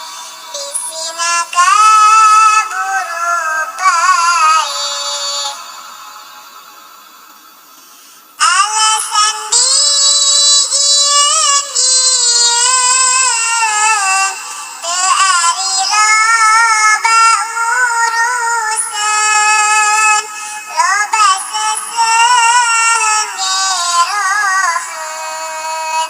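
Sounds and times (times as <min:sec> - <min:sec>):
high-pitched voice chanting: 0:00.0 - 0:05.8, 0:08.4 - 0:26.0.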